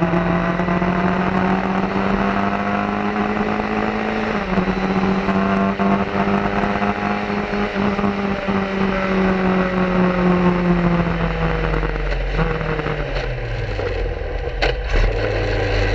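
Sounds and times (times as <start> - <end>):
racing car engine revving: 0.0 - 15.9.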